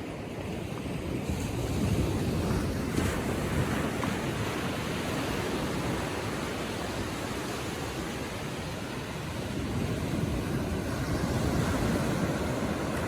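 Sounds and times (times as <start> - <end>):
small waves washing onto shore: 0.0 - 13.0.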